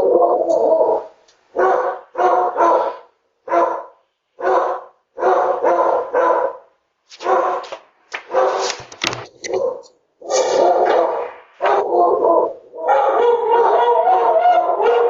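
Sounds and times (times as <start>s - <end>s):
dogs barking: 0.0s - 8.7s, 9.5s - 15.0s.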